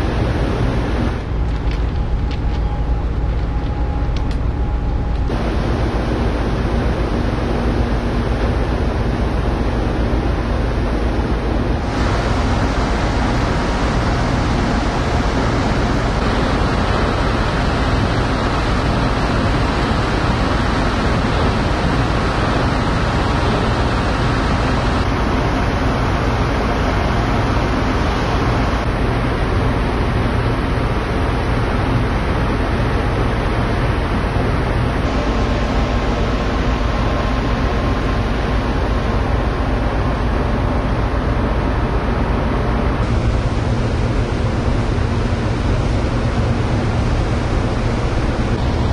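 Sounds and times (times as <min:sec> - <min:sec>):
low ship rumble: 0:00.0 - 0:48.9
churning water: 0:05.3 - 0:48.9.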